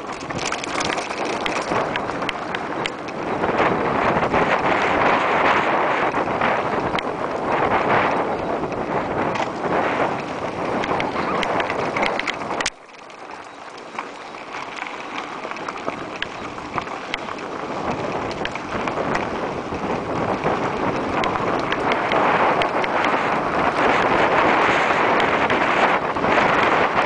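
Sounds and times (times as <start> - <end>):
bike clicks and rattles: 0.0 - 27.0
bike tyre crunch: 0.0 - 27.0
wind rushing over microphone: 0.0 - 27.0.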